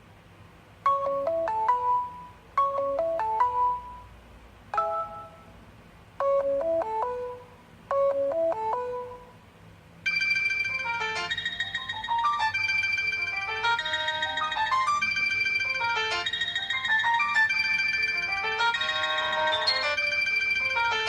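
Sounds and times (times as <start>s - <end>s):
fuller ringtone tone: 0.8s - 4.1s, 4.8s - 5.6s, 6.2s - 9.4s, 10.1s - 21.0s
phone ringtone chime melody: 0.9s - 4.1s, 4.8s - 5.5s, 6.2s - 9.3s, 10.1s - 21.0s.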